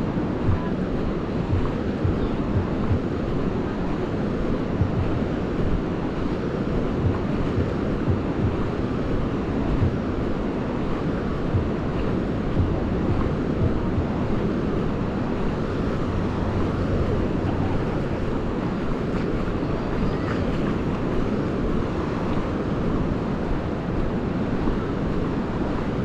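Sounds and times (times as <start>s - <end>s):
sea surf: 0.0s - 26.0s
wind blowing across microphone: 0.0s - 26.0s.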